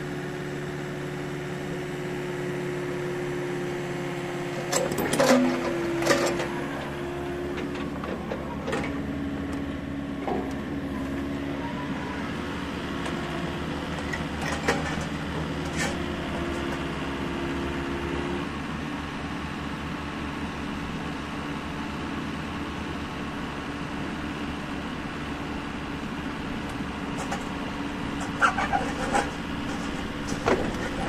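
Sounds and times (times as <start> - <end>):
excavator engine under load: 0.0 - 31.0.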